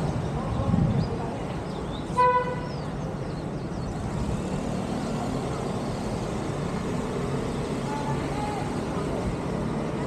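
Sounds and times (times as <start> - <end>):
city street traffic hum: 0.0 - 10.0
motorbikes passing: 0.0 - 10.0.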